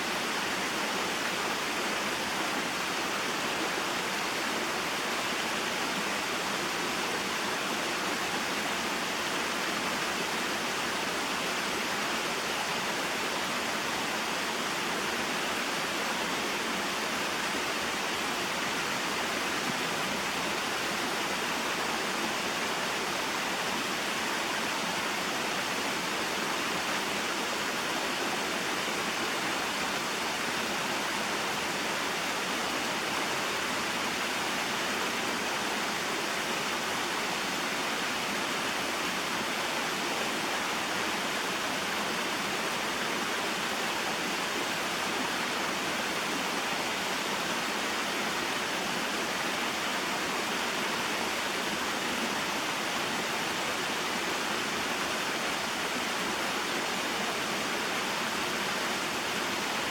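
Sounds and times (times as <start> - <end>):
waterfall flowing water: 0.0 - 59.9.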